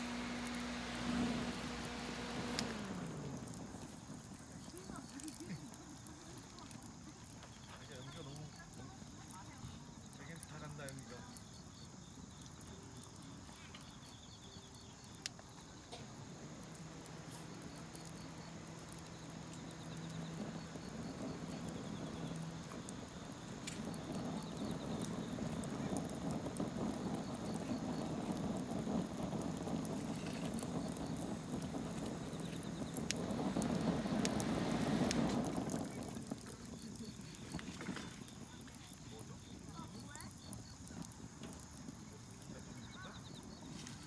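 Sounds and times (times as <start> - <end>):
crickets chirping: 0.0 - 44.0
fire crackling and popping: 0.0 - 44.0.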